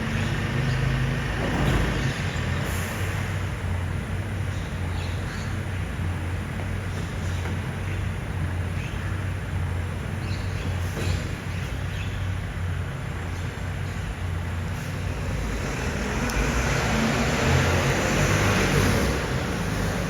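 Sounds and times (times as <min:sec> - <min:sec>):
diesel engine humming: 0:00.0 - 0:20.0
street traffic noise: 0:00.0 - 0:20.0.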